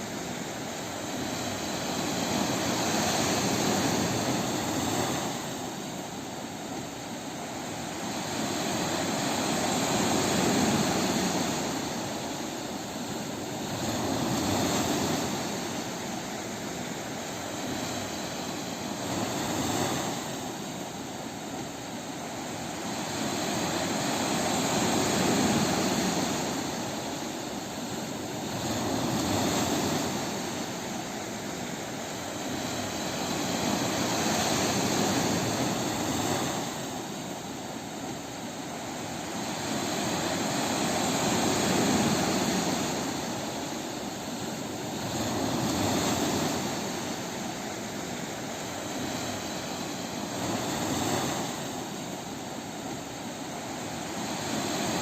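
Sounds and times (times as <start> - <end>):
ocean waves breaking on a beach: 0.0 - 55.0.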